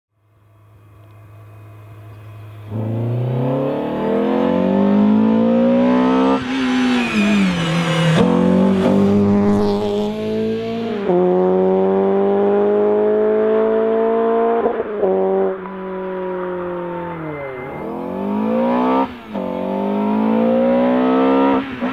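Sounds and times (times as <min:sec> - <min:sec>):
car engine accelerating hard: 0:01.0 - 0:21.9.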